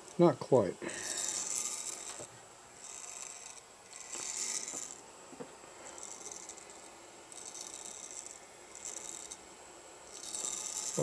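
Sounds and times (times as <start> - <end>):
spindle rattling: 0.1 - 11.0.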